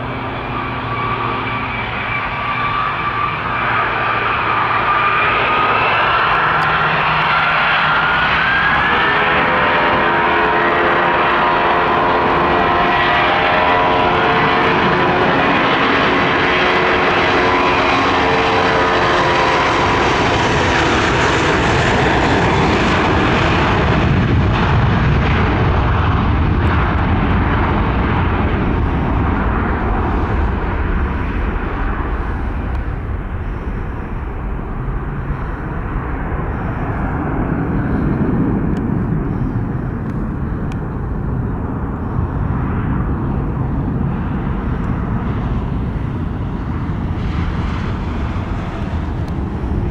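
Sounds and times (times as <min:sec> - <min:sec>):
jet engines whining and rumbling: 0:00.0 - 0:49.9.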